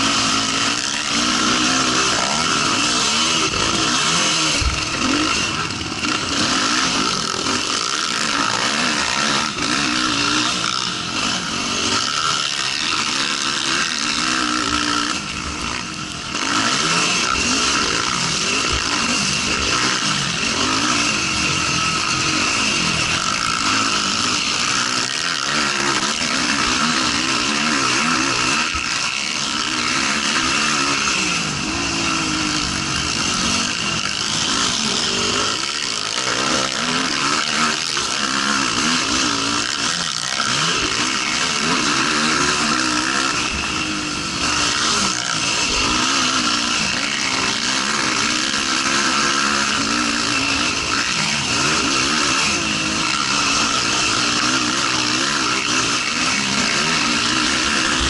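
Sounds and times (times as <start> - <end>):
racing quad engine revving: 0.0 - 58.0.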